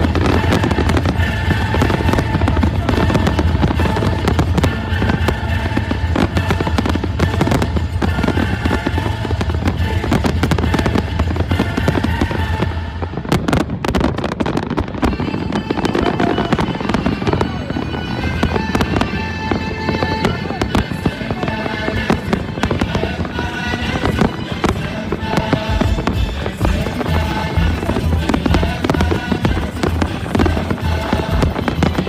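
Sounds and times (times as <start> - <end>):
fireworks bangs and crackles: 0.0 - 32.0
music: 0.0 - 32.0.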